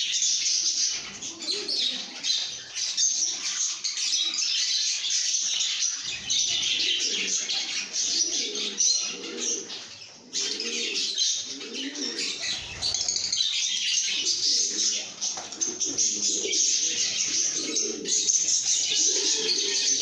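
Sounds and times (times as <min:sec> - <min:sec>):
birds chirping shrilly: 0:00.0 - 0:20.0.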